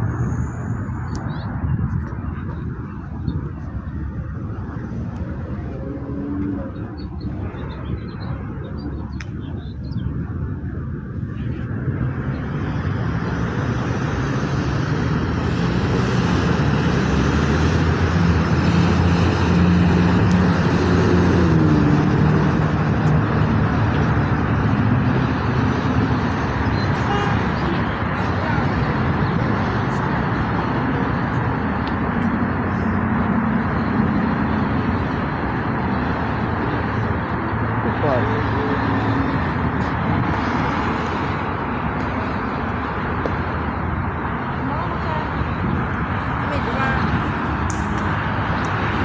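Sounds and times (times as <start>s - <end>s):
train engine drone: 0.0s - 11.3s, 11.9s - 49.0s.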